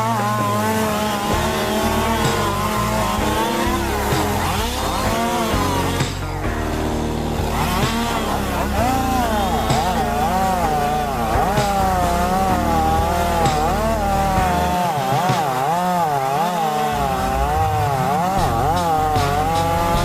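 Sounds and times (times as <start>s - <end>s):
chainsaw cutting: 0.0s - 20.0s.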